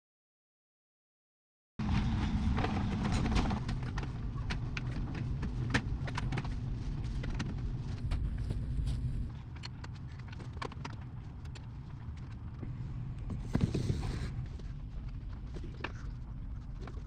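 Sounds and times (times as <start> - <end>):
steady low rumble: 1.8 - 17.0.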